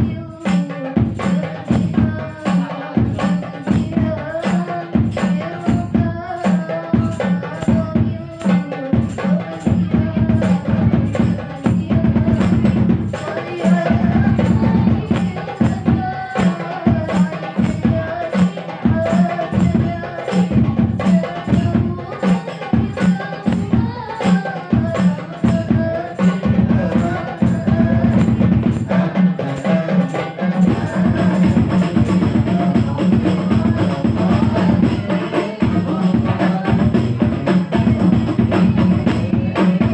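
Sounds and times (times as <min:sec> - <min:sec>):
hand percussion rhythm: 0:00.0 - 0:39.9.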